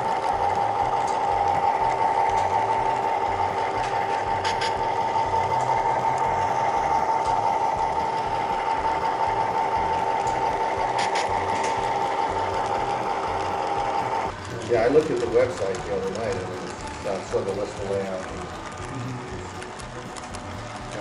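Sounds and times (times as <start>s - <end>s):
electric motor whine: 0.0s - 21.0s
wheels rumbling on rail: 0.0s - 21.0s.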